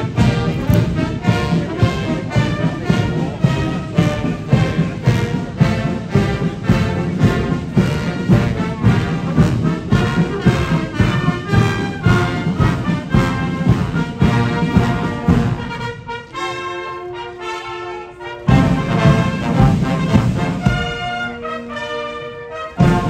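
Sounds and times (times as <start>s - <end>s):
steady drum beat: 0.0s - 16.1s, 18.4s - 21.5s, 22.8s - 23.0s
brass playing a march: 0.0s - 23.0s.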